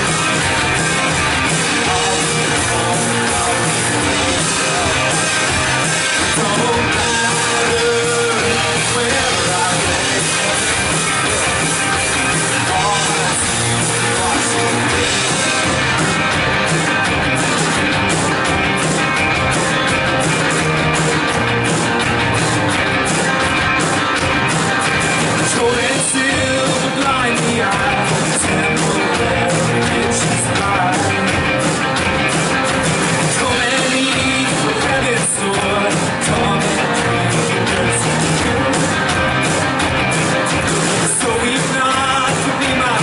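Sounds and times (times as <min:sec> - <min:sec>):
drums: 0:00.0 - 0:43.0
electric guitar: 0:00.0 - 0:43.0
live band playing: 0:00.0 - 0:43.0.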